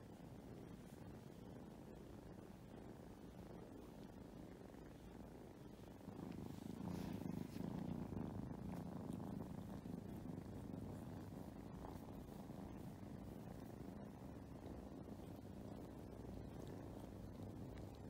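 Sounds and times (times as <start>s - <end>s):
kittens purring: 0.0s - 18.0s.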